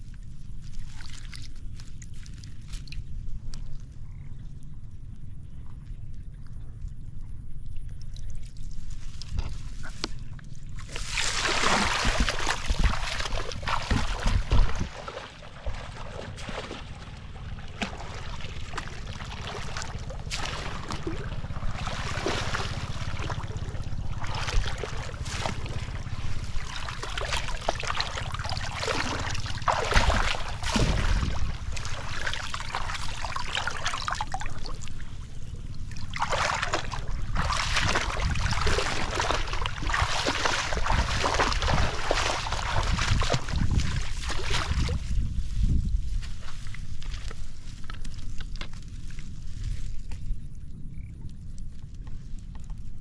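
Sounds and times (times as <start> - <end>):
water splashing and sloshing: 0.0 - 4.7, 5.4 - 50.3
low rumble: 1.5 - 53.0.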